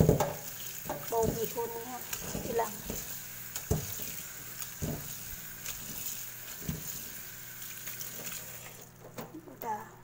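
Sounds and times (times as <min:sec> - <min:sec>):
hand rinsing noodles: 0:00.0 - 0:09.0
tap water running into sink: 0:00.0 - 0:09.4.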